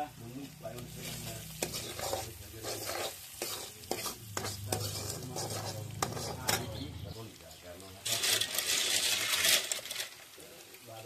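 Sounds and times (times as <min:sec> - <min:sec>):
food frying in a pan: 0:00.0 - 0:11.0
scraping strokes in a pan: 0:00.4 - 0:10.8.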